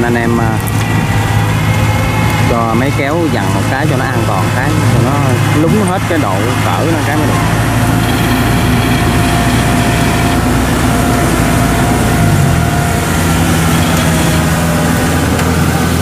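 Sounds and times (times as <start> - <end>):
diesel engine running: 0.0 - 16.0
thin whine: 0.0 - 16.0.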